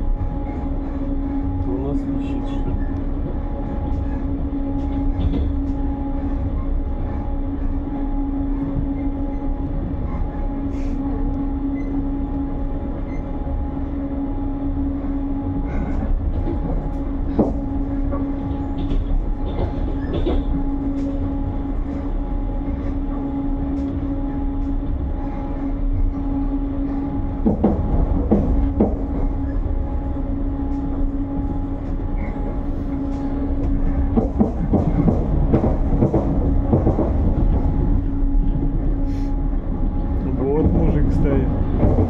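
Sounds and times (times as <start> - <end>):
train rumbling on track: 0.0 - 42.0.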